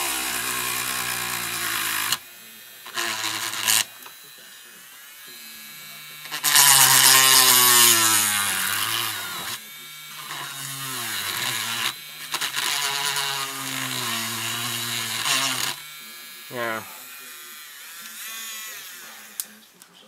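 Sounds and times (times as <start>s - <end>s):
rotary tool grinding plastic: 0.0s - 19.8s.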